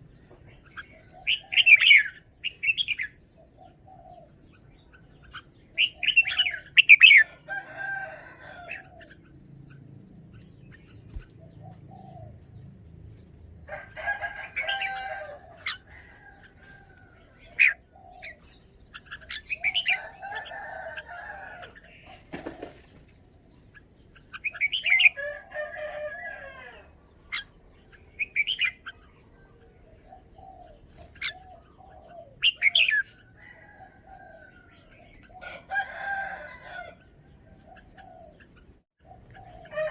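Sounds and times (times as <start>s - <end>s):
bird chirping phrases: 0.0s - 39.9s.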